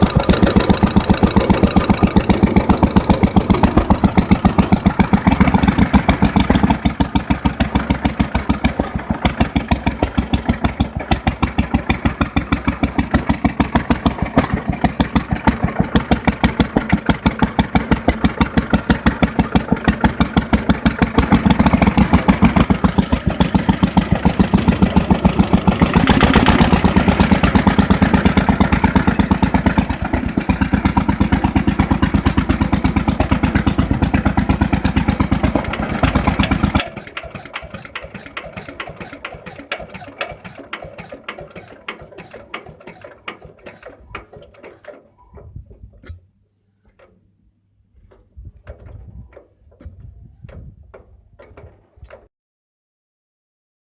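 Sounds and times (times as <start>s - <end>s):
stationary petrol engine running: 0.0s - 45.2s.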